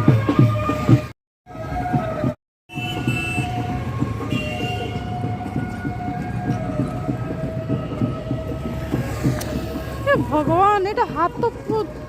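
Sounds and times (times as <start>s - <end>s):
moving train rumbling: 0.0s - 12.0s.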